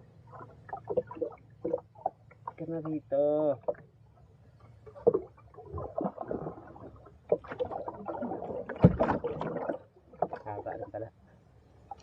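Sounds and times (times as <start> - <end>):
water splashing around boat: 0.0 - 11.2.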